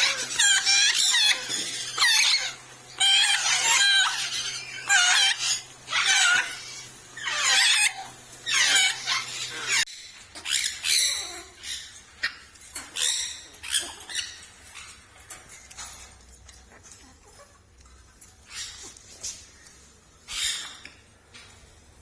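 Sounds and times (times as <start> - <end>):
parrots squawking: 0.0 - 19.6, 20.2 - 21.0.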